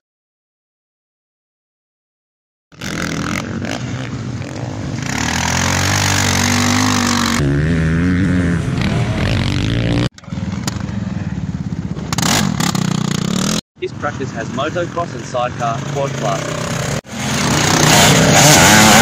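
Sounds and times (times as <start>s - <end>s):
motorcycle engines revving: 2.8s - 19.0s.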